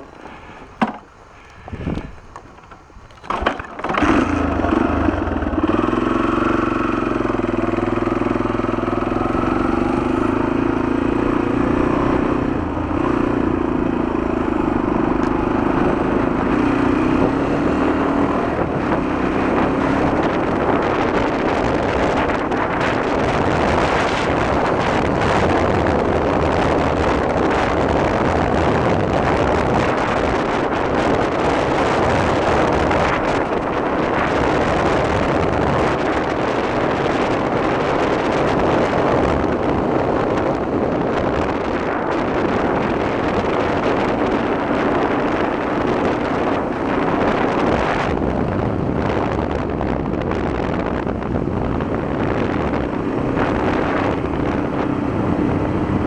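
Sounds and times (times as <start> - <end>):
dirt bike engine running: 0.0 - 56.0
wind buffeting microphone: 0.0 - 56.0.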